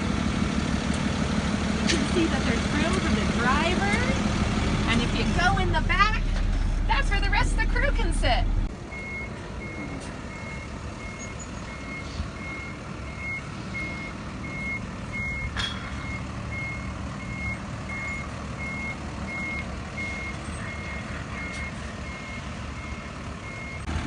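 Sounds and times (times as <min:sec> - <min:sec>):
engine rumbling: 0:00.0 - 0:24.0
truck reversing alarm beeping: 0:00.0 - 0:24.0.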